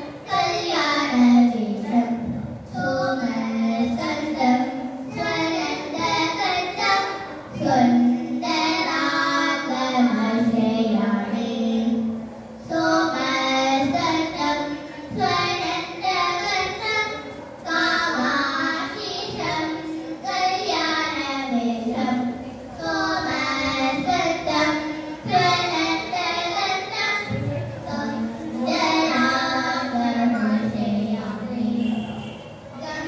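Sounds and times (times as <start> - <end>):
girls singing: 0.0 - 33.0.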